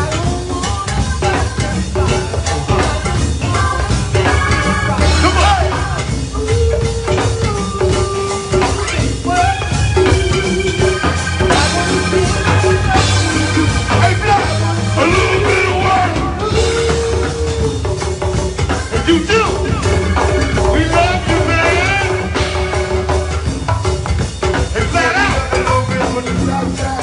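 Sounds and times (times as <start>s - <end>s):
person singing: 0.0s - 10.6s, 11.5s - 22.7s, 24.8s - 27.0s
drum groove: 0.0s - 27.0s
live band playing: 0.0s - 27.0s.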